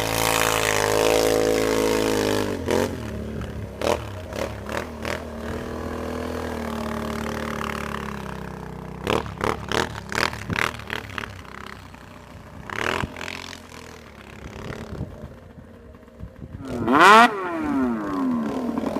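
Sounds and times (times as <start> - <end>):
atv engine revving: 0.0 - 18.9.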